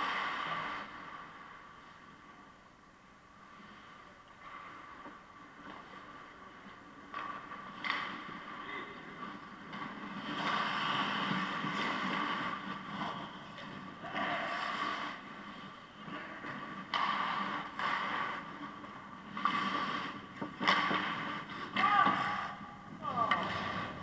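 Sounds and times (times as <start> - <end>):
skates scraping ice: 0.0 - 2.6, 3.3 - 24.0.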